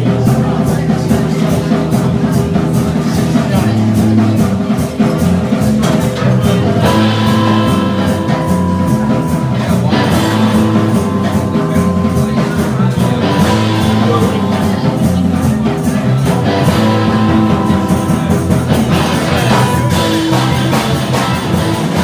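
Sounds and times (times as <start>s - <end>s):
rock band playing: 0.0s - 22.0s
electric guitar long notes: 3.6s - 22.0s.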